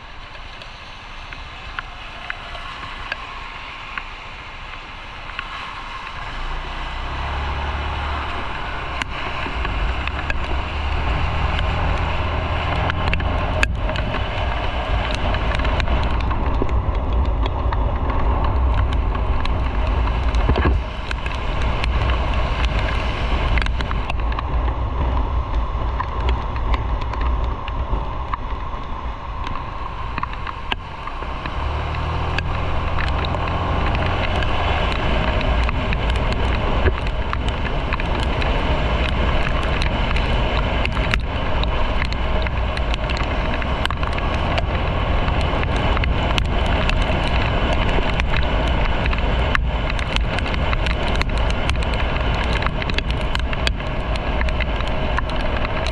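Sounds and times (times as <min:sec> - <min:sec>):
wind rush: 0:00.0 - 0:55.9.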